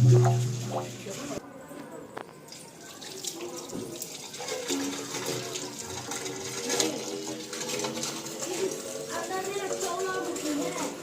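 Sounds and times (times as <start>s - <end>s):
water running and gurgling: 0.0s - 1.4s, 2.8s - 11.0s.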